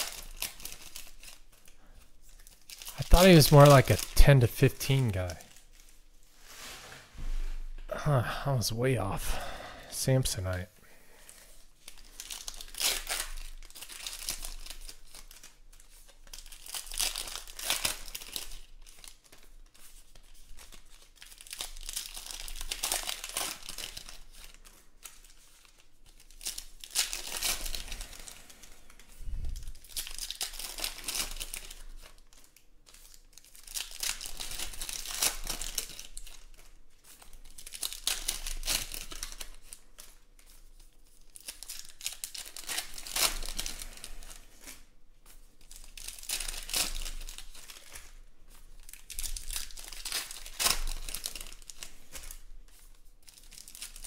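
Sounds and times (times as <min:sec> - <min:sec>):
foil wrappers tearing and crinkling: 0:00.0 - 0:06.6, 0:11.3 - 0:54.0.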